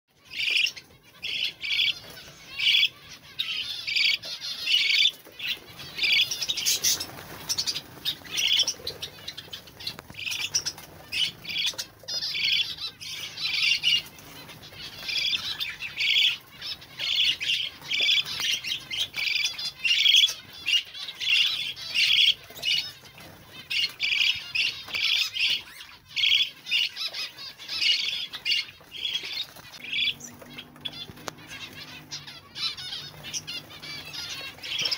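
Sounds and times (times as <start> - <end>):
budgerigars chirping: 0.2 - 34.9.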